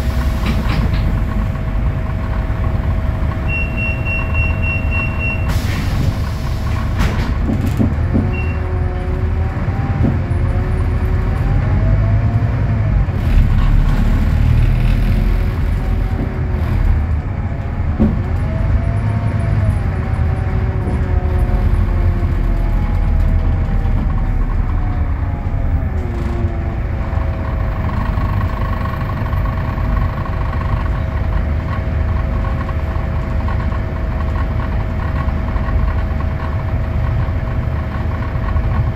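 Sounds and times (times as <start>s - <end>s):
bus diesel engine idling: 0.0s - 38.9s
high engine whines: 0.0s - 38.9s.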